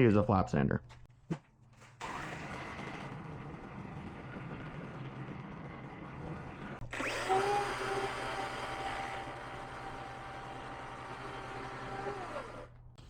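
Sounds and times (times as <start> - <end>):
flap sander whining: 2.0 - 13.0.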